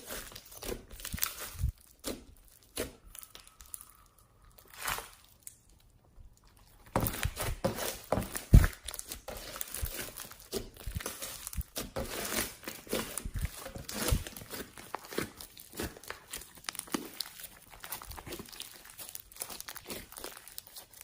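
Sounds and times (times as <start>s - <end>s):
slime kneaded by hand: 0.0s - 21.0s.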